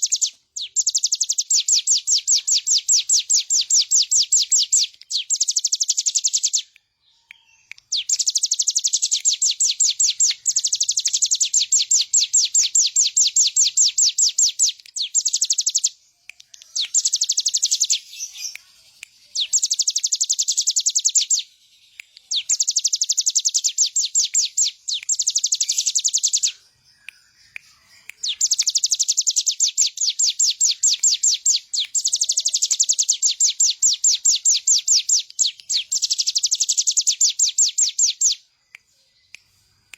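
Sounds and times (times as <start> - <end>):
bird singing fast trills: 0.0 - 39.7.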